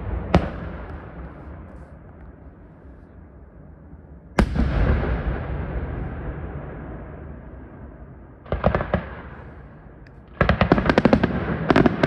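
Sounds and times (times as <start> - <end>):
rolling echo: 0.0 - 12.0.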